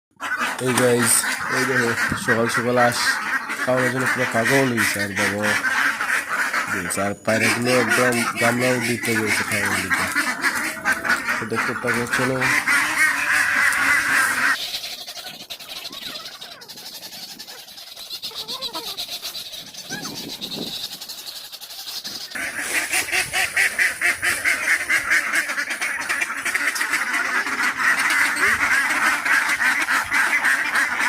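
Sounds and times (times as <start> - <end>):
ducks quacking: 0.1 - 31.0.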